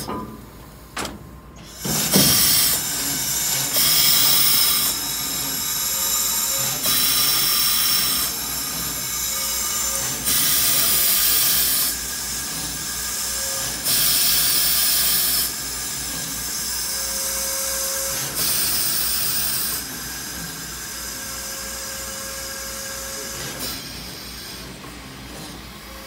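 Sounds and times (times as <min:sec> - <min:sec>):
steady mechanical hum: 0:00.0 - 0:26.0
loud bursts of hissing air: 0:01.6 - 0:25.7.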